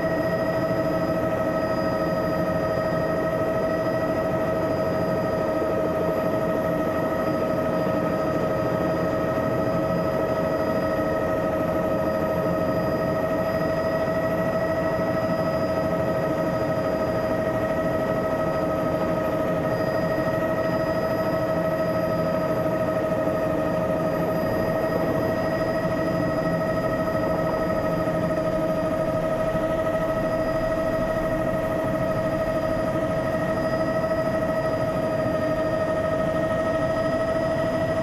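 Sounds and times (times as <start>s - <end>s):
engine and rotor rumble: 0.0s - 38.0s
helicopter turbine whine: 0.0s - 38.0s.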